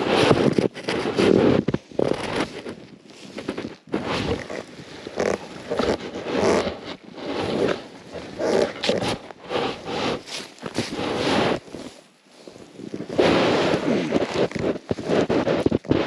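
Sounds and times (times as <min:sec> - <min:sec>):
snow crunching and scraping: 0:00.0 - 0:16.0.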